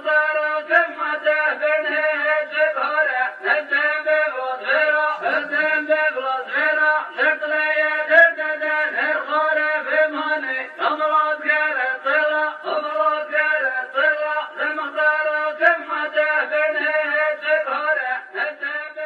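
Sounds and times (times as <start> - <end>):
man singing a chant: 0.0 - 19.0.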